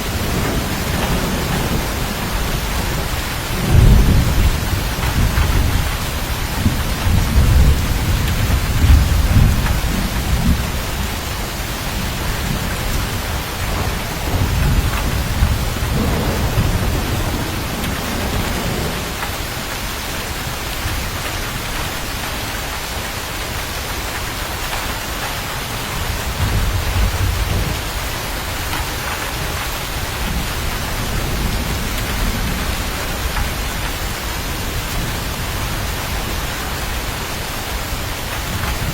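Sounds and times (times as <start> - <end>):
low thunder rumbling: 0.0 - 23.0, 25.0 - 38.9
heavy rain hissing: 0.0 - 38.9.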